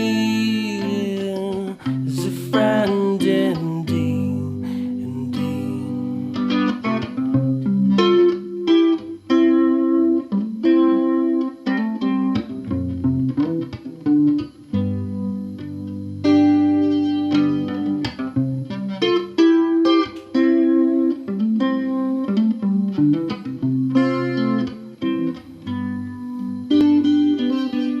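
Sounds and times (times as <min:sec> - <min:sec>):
fingerstyle guitar: 0:00.0 - 0:28.0.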